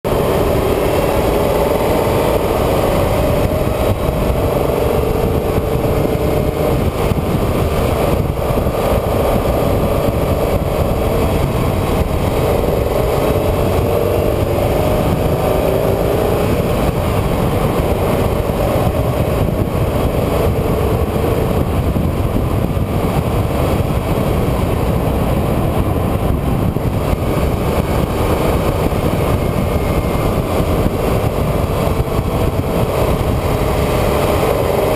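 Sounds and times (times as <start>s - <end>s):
road noise: 0.0s - 34.9s
vehicle engine running: 0.0s - 34.9s
wind rumble: 0.0s - 34.9s.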